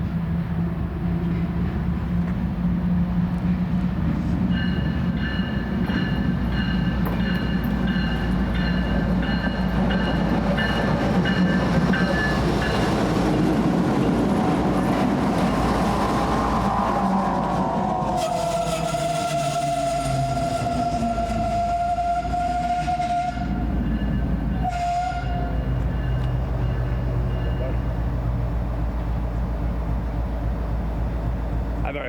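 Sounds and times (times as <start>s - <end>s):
diesel locomotive engines droning: 0.0s - 32.0s.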